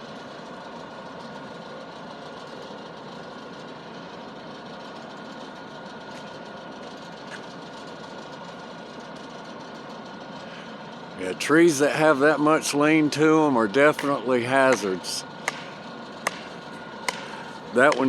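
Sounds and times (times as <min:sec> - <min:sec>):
engine idling: 0:00.0 - 0:18.0
faint continuous whine: 0:00.0 - 0:18.0.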